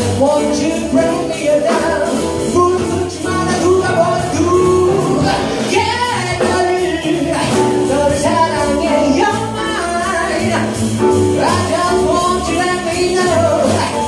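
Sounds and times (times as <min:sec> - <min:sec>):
drum kit: 0:00.0 - 0:14.0
grand piano: 0:00.0 - 0:14.0
male vocalist singing: 0:00.0 - 0:14.0
upright double bass: 0:00.0 - 0:14.0.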